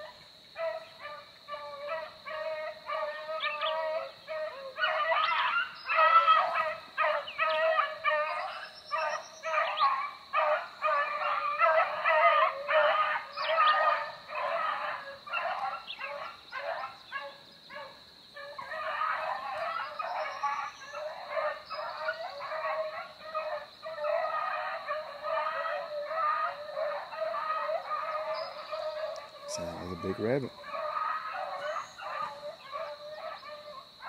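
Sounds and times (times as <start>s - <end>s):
dogs baying: 0.0s - 34.0s.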